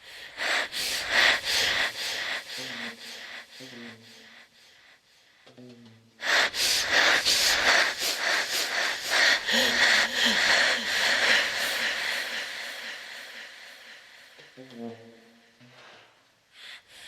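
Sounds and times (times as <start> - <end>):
heavy wheezing breathing: 0.0 - 5.4, 6.2 - 14.6.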